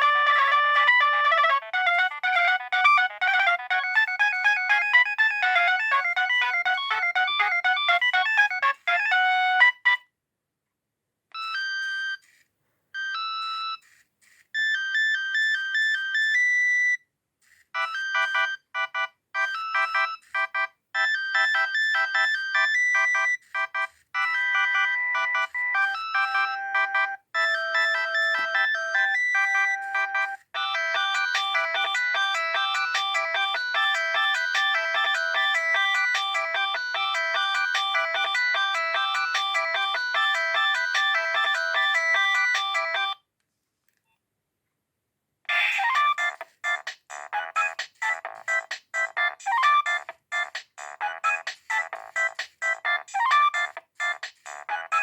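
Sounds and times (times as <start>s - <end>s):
mobile phone ringtone melodies: 0.0s - 10.0s, 11.4s - 12.2s, 13.0s - 13.8s, 17.8s - 43.2s, 45.5s - 55.0s.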